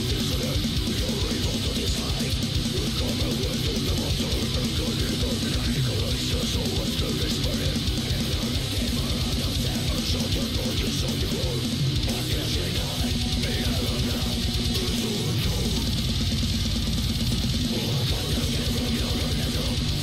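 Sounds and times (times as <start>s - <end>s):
heavy metal music: 0.0s - 20.0s.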